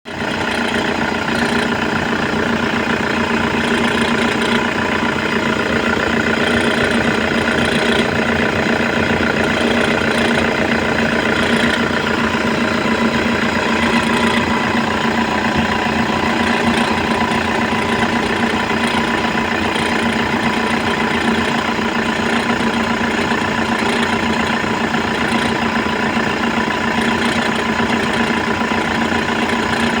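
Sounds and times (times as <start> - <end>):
car engine idling: 0.0 - 30.0
alternator pulley whirring: 0.1 - 30.0.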